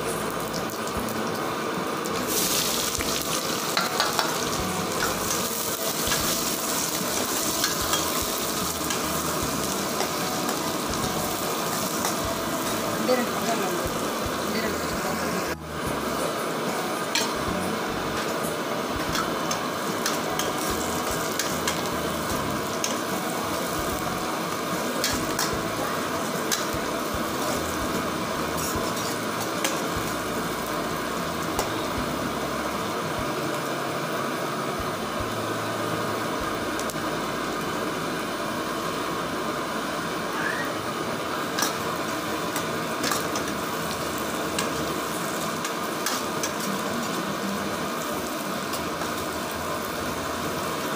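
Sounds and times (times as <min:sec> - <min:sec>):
onions sizzling in hot oil: 0:00.0 - 0:50.9.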